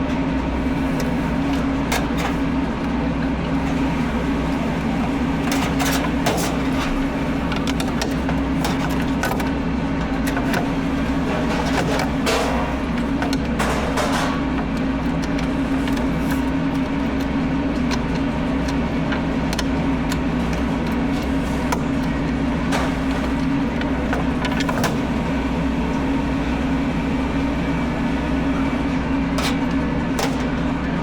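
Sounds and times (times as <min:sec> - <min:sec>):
machine hum: 0:00.0 - 0:31.0.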